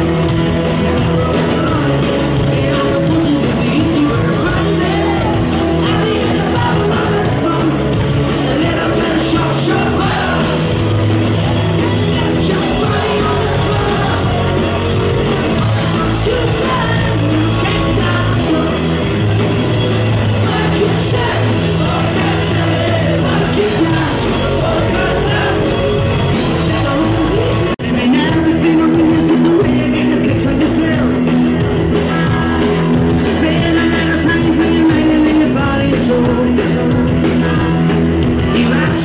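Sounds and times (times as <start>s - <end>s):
concert crowd: 0.0s - 39.0s
live rock band playing: 0.0s - 39.0s
person singing lead vocal: 0.0s - 39.0s.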